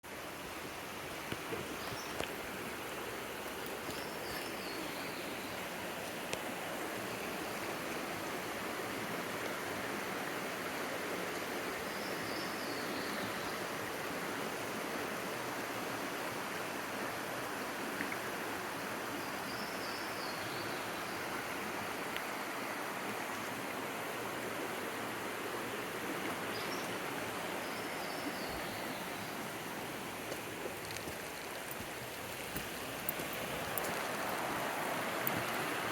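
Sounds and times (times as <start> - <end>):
stream rushing over rocks: 0.0 - 35.9.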